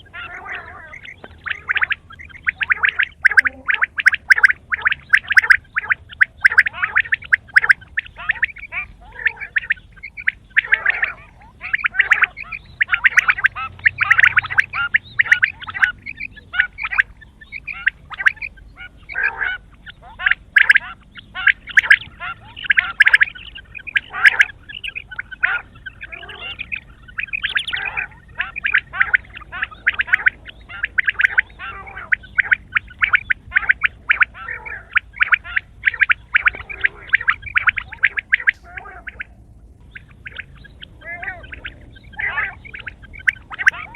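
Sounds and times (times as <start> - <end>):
quail calling: 0.0 - 43.9.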